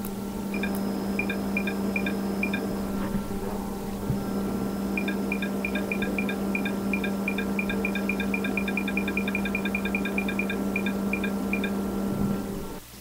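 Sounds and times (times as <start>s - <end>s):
pump humming: 0.0s - 13.0s.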